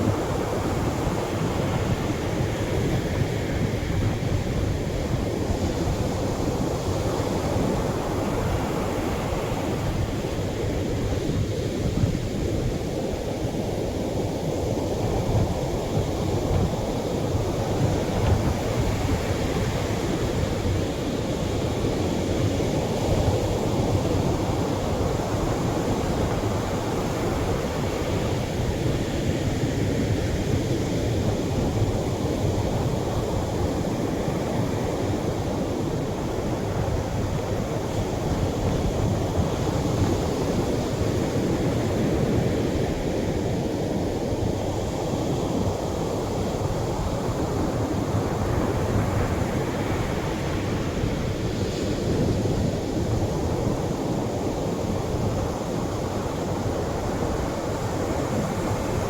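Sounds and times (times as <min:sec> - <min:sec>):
surf waves breaking on shore: 0:00.0 - 0:59.0.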